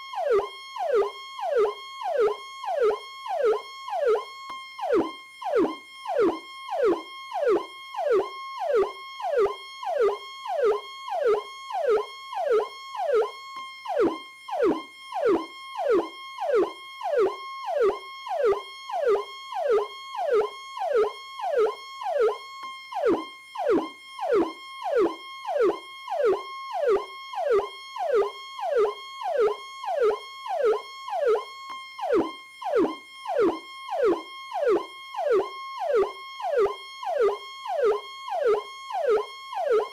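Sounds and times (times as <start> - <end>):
electronic police siren wailing: 0.0 - 39.9.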